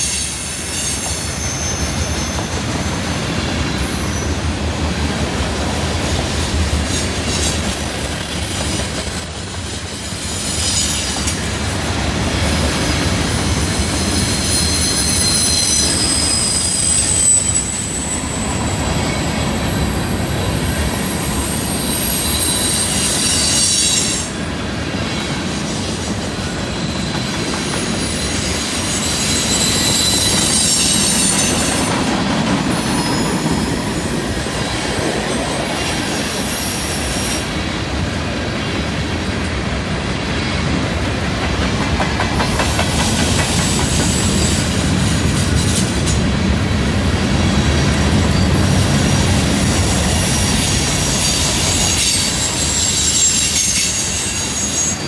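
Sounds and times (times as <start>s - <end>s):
wheel flange squeals: 0.0s - 11.5s, 13.4s - 19.6s, 21.0s - 32.2s, 32.8s - 34.8s, 35.4s - 44.9s, 49.6s - 55.0s
freight train wheels rumbling: 0.0s - 55.0s.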